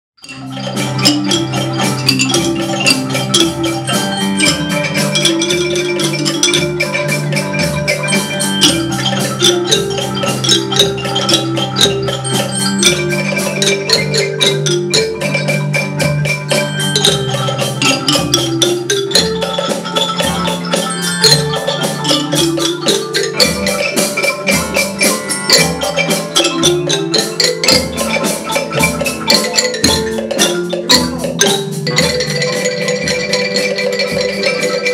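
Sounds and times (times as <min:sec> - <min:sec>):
xylophones and glockenspiels playing: 0:00.2 - 0:34.9.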